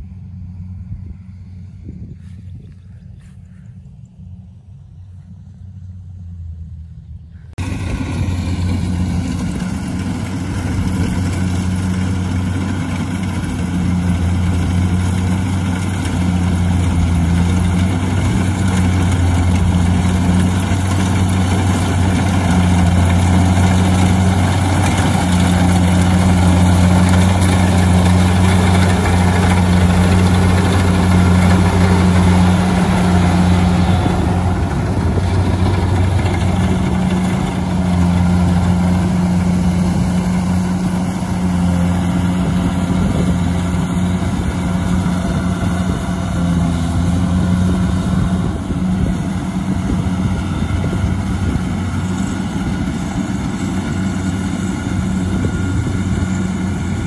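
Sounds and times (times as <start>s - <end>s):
harvester engine deep hum: 0.0s - 57.0s.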